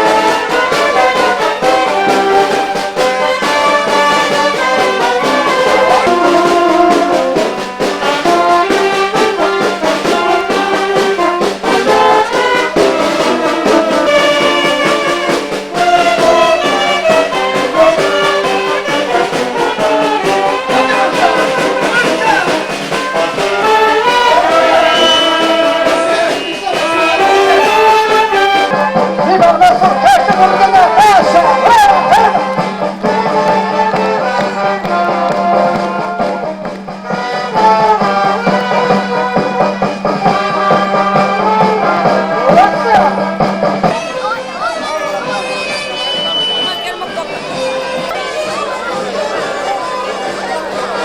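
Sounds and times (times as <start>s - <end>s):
brass band playing: 0.0s - 51.0s.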